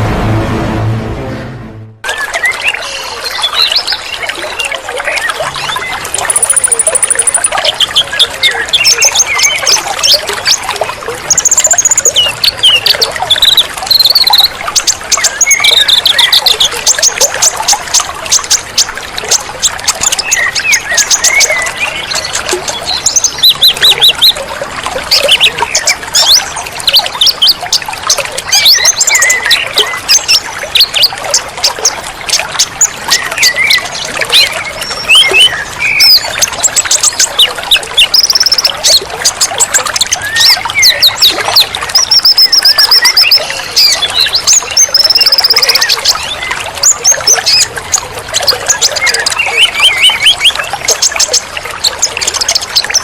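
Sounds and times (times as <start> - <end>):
water trickling: 2.0 - 53.0
birds singing and chirping: 2.1 - 53.0.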